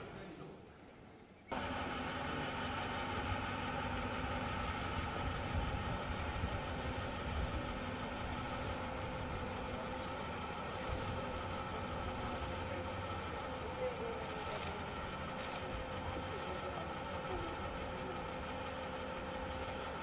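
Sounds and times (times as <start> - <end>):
machine hum: 1.5 - 20.0.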